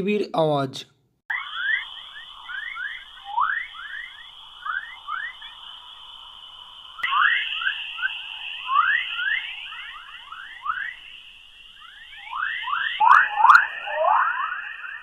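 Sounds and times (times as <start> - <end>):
rapid rising chirps: 1.3 - 15.0
steady high tone: 1.3 - 15.0.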